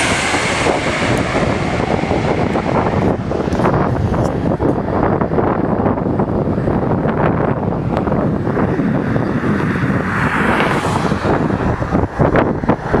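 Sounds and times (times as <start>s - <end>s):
jet engines during landing: 0.0s - 13.0s
wind buffeting microphone: 0.0s - 13.0s.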